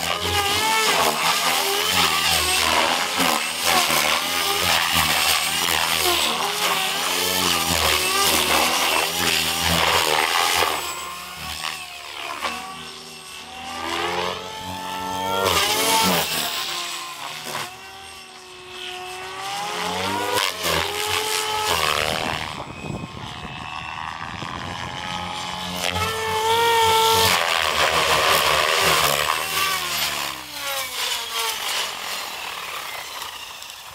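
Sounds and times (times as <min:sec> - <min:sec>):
electric motor whine: 0:00.0 - 0:33.9
rotor blades rushing: 0:00.0 - 0:33.9.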